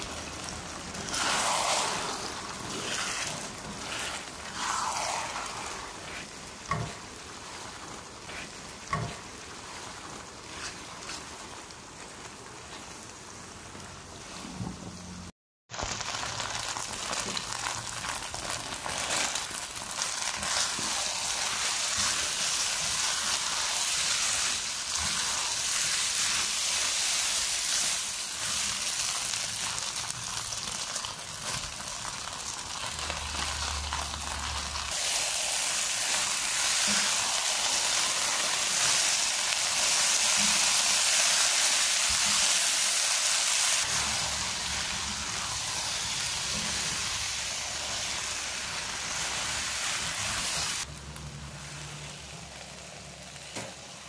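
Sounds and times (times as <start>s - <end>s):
noodles sizzling in a wok: 0.0s - 54.0s.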